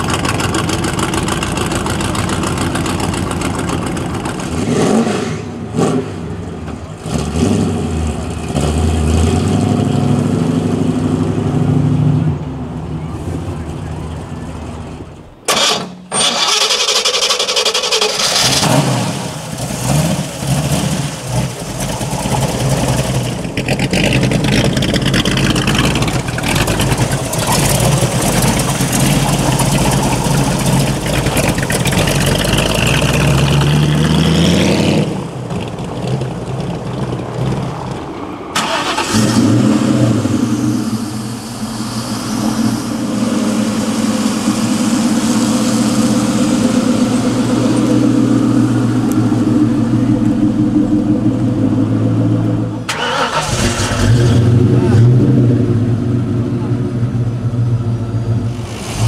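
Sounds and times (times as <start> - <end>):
engine revving: 0.0 - 12.4, 15.5 - 59.0
car engine starting: 0.0 - 59.0.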